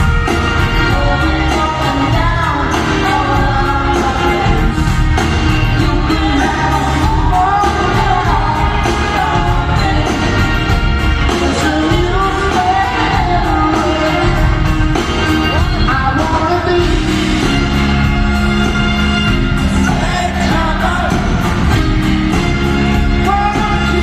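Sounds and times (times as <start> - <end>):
lead singer singing: 0.0 - 24.0
live rock band: 0.0 - 24.0.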